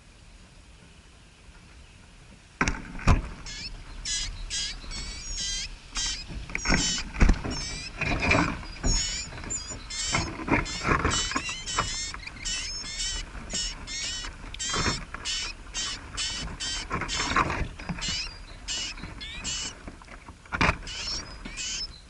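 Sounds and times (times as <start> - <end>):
rustling: 1.5 - 21.8
small birds chirping: 3.3 - 19.8, 20.6 - 22.0.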